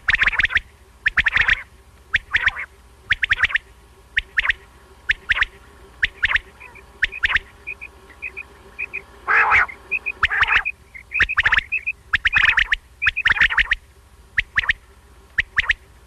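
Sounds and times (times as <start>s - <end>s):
quail calling: 0.0s - 15.9s.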